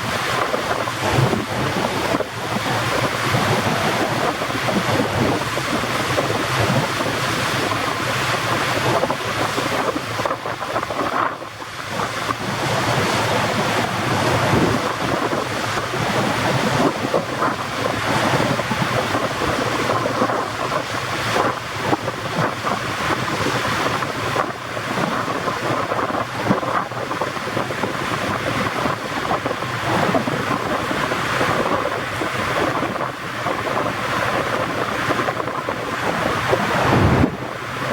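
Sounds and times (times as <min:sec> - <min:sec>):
rushing water: 0:00.0 - 0:37.9
wind buffeting microphone: 0:00.0 - 0:37.9.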